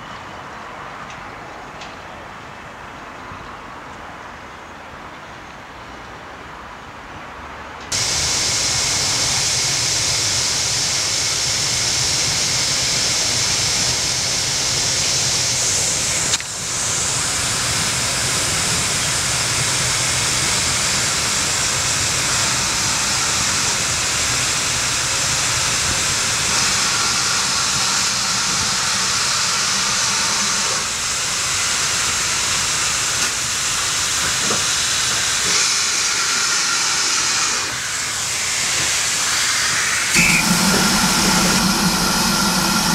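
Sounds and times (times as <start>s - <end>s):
steam locomotive hissing steam: 7.9s - 42.9s.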